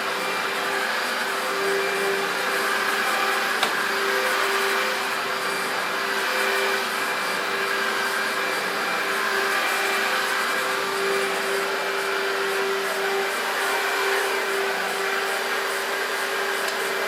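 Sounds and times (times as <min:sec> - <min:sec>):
vacuum cleaner motor running: 0:00.0 - 0:17.0.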